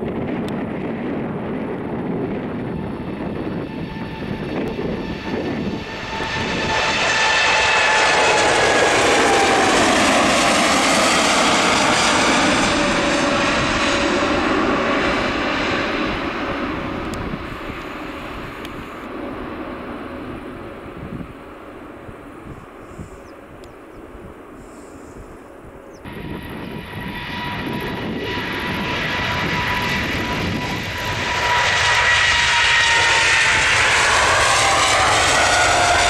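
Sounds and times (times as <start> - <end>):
jet engines roaring at takeoff: 0.0 - 36.0
whining jet engine tones: 0.0 - 36.0.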